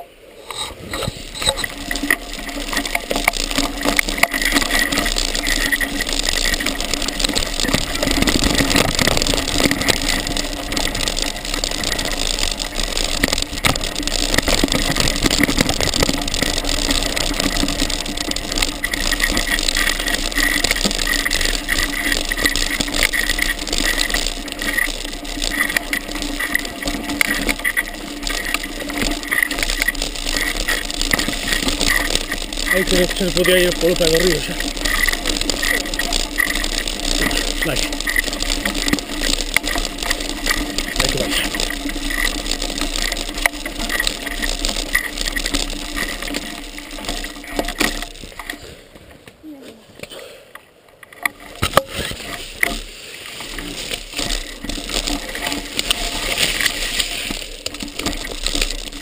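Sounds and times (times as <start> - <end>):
bike chain and frame rattling: 0.0 - 49.2, 50.9 - 59.0
tyres crackling over twigs: 0.5 - 59.0.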